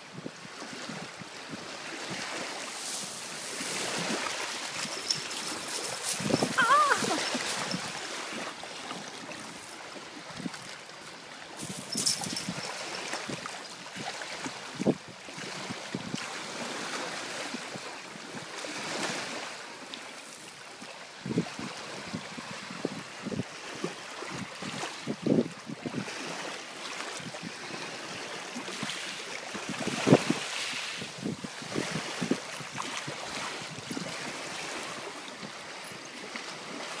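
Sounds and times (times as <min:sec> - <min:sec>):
small waves over pebbles: 0:00.0 - 0:37.0.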